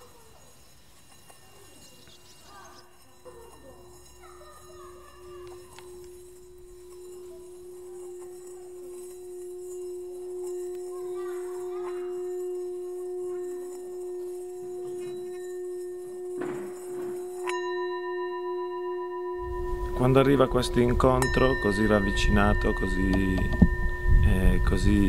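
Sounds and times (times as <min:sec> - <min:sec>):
higher ringing tone: 0:00.0 - 0:25.0
low ringing musical drone: 0:00.0 - 0:25.0.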